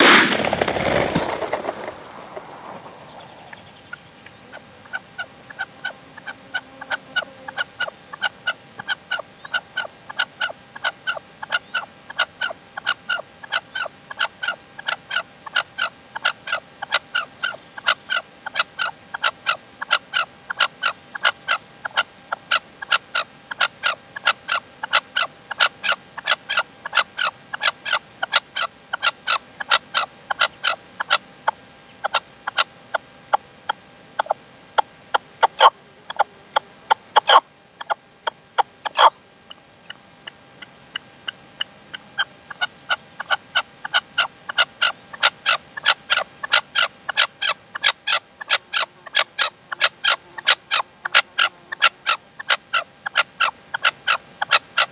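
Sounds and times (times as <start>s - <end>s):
partridge calling: 0.7s - 54.9s.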